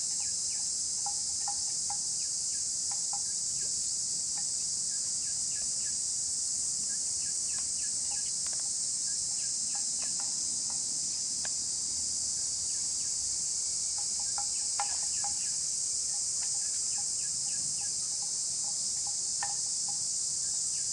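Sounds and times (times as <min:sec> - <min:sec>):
high-pitched insect chorus: 0:00.0 - 0:20.9.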